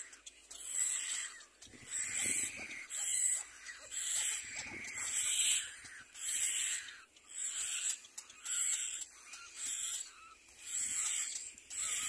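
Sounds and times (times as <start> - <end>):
chicks hissy begging calls: 0.0 - 12.0.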